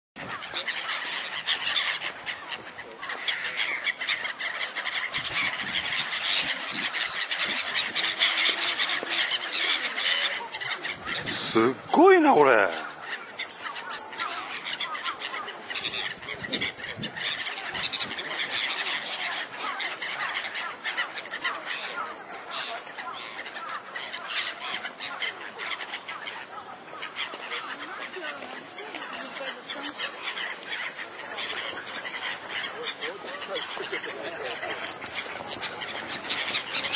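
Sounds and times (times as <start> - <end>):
gulls calling: 0.2 - 36.9.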